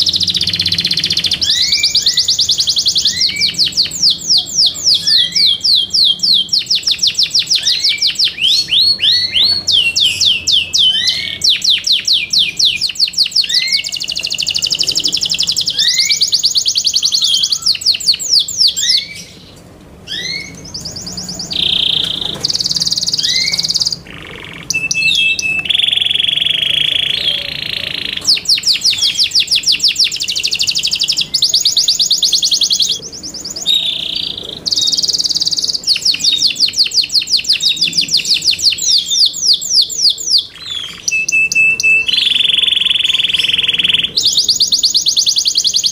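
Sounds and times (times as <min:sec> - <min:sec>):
canary singing: 0:00.0 - 0:45.9.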